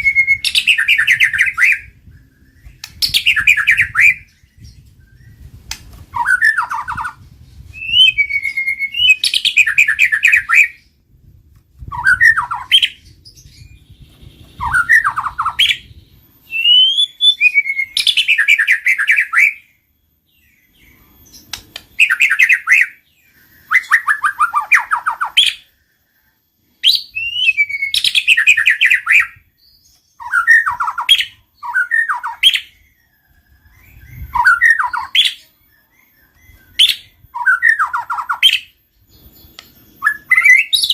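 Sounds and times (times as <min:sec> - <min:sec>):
bird whistles and rattling trills: 0:00.0 - 0:11.0, 0:11.7 - 0:19.8, 0:20.4 - 0:25.9, 0:26.8 - 0:40.9.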